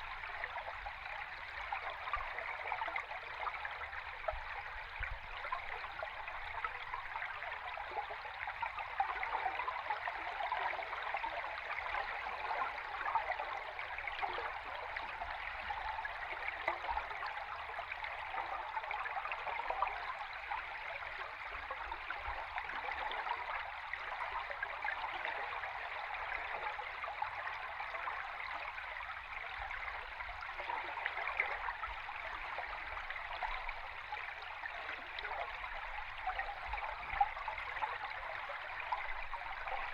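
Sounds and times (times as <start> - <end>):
underwater stream bubbling: 0.0 - 39.9.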